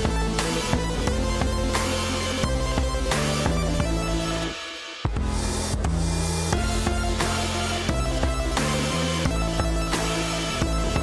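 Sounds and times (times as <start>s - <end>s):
electronic music with drums: 0.0s - 11.0s.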